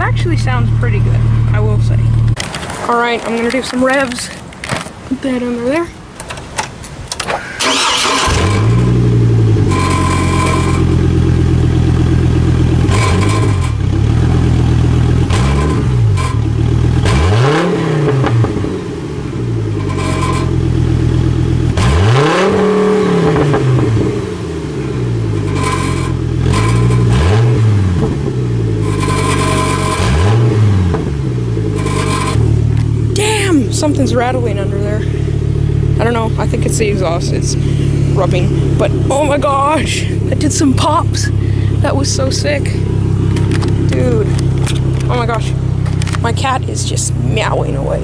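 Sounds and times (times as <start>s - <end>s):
rattling underneath: 0.0s - 16.8s, 25.2s - 48.0s
truck engine revving with pops: 0.0s - 48.0s.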